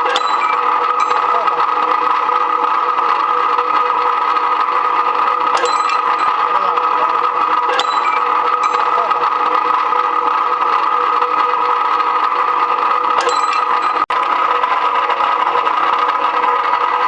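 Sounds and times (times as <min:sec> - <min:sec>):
machine motor hum and whine: 0:00.0 - 0:17.0.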